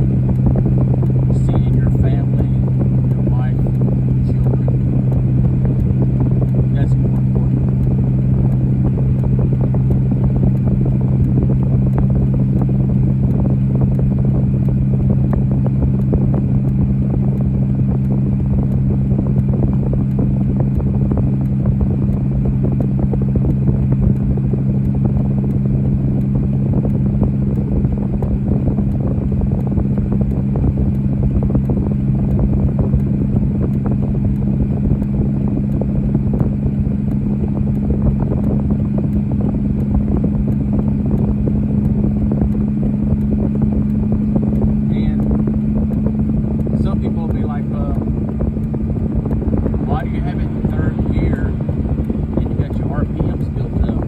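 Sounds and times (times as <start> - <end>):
motor vehicle drone: 0.0 - 54.0.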